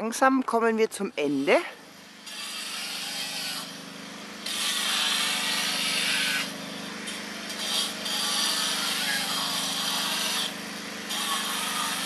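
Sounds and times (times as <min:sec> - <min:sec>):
low machine hum: 0:00.0 - 0:12.0
power tool grinding stone: 0:00.0 - 0:12.0.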